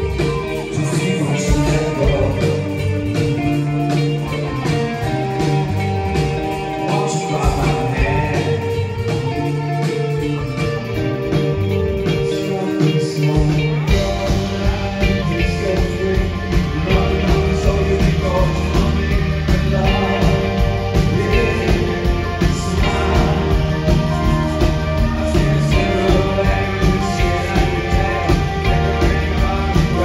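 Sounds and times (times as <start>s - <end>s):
bass guitar: 0.0s - 30.0s
rock band playing live: 0.0s - 30.0s.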